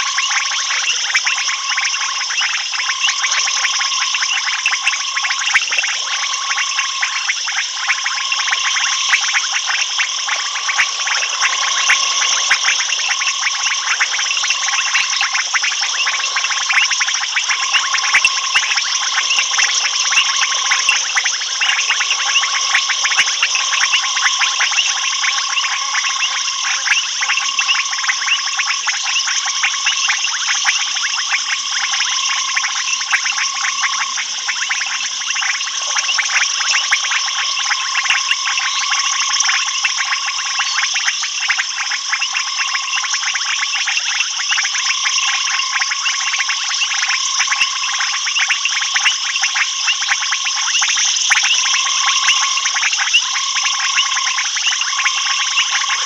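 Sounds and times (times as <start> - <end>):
frog trill: 0.0 - 56.0
frogs clicking and trilling: 0.0 - 56.0
high-pitched insect drone: 0.0 - 56.0.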